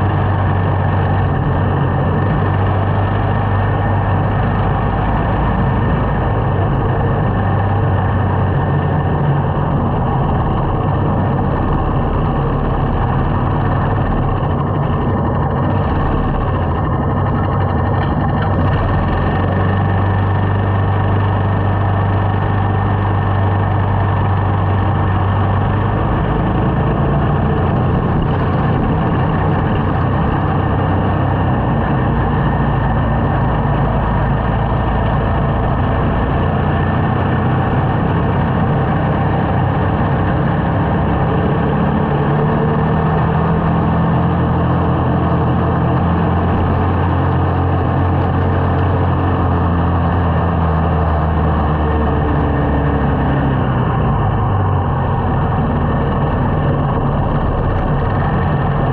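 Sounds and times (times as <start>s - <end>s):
motorcycle engine humming: 0.0s - 58.9s
road noise: 0.0s - 58.9s.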